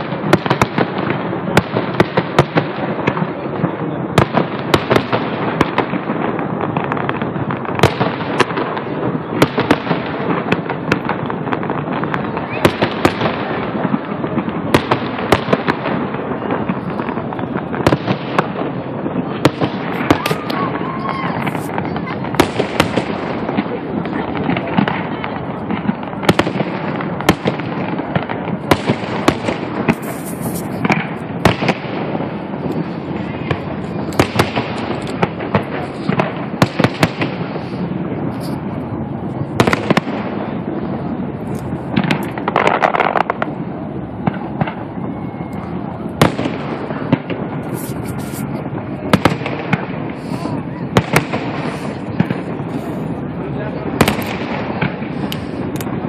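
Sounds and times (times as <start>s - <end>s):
background noise: 0.0s - 56.0s
firework bangs: 0.0s - 56.0s.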